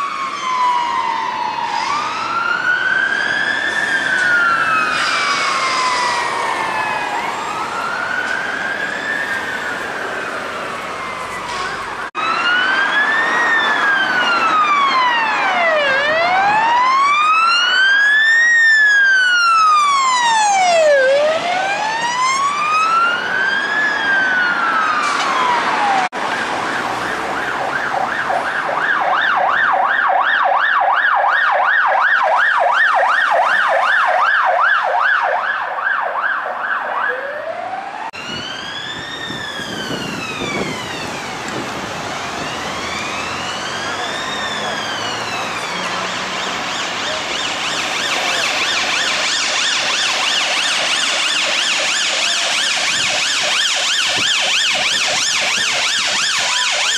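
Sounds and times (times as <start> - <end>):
siren wailing: 0.0 - 56.9
siren yelping: 0.0 - 56.9.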